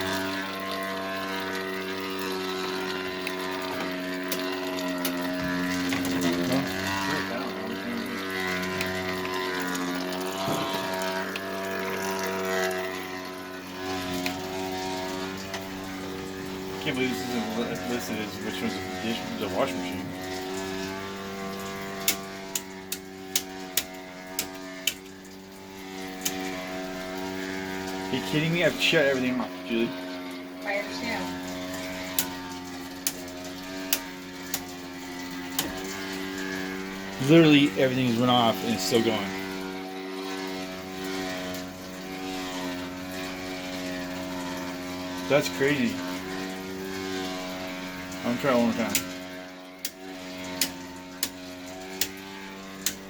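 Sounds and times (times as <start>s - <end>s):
circuit breakers clicking off: 0.0s - 30.0s, 30.9s - 53.0s
steady hum: 0.0s - 53.0s
washing machine drone: 0.0s - 53.0s.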